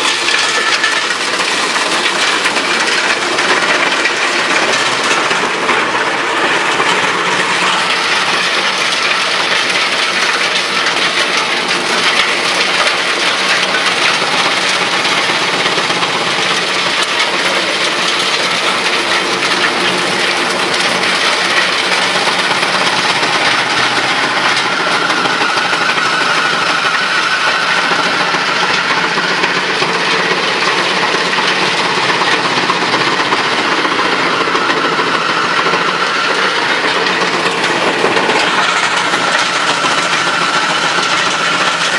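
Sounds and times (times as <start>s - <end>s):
wood chipper drone: 0.0s - 41.9s.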